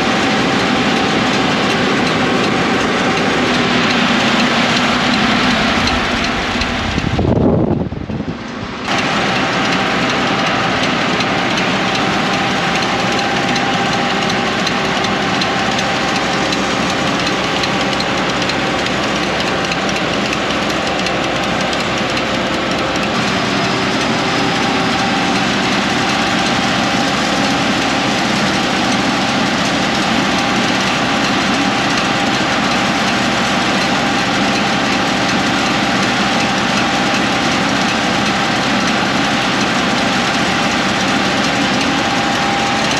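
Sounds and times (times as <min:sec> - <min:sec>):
heavy rush of noise: 0:00.0 - 0:42.9
tractor engine running: 0:00.0 - 0:42.9.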